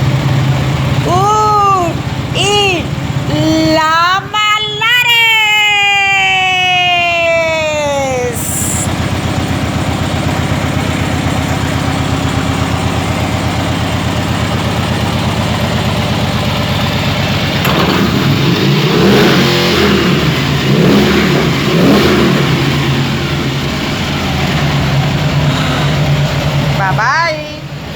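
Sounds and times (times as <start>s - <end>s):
motorcycle engine idling and revving: 0.0s - 27.9s.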